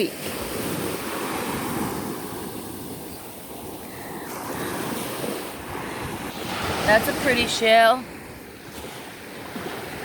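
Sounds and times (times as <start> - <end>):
surf washing onto beach: 0.0 - 10.0
wind buffeting microphone: 0.4 - 10.0.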